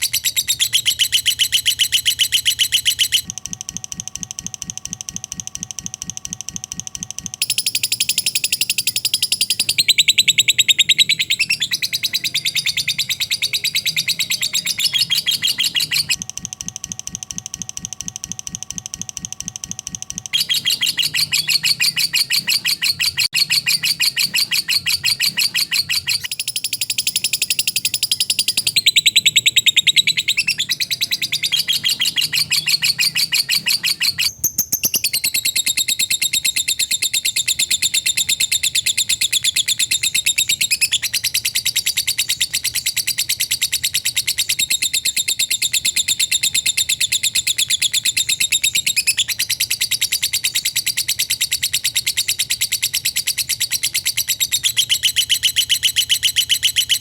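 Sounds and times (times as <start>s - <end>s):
lovebird chirping rapidly: 0.0s - 3.3s, 7.4s - 16.2s, 20.3s - 57.0s.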